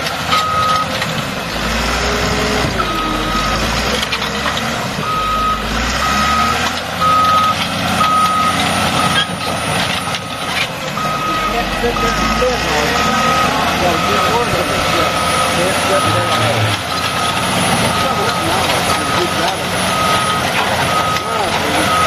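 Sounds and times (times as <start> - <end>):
reversing alarm beeping: 0.3 - 1.0, 2.8 - 3.8, 5.0 - 22.0.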